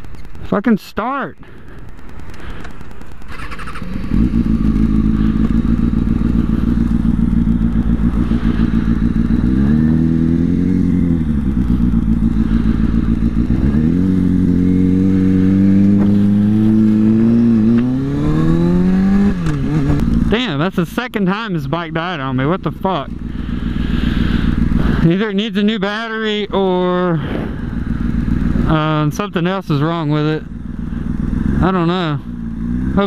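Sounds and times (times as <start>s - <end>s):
motorcycle engine starting and idling: 0.0s - 33.0s.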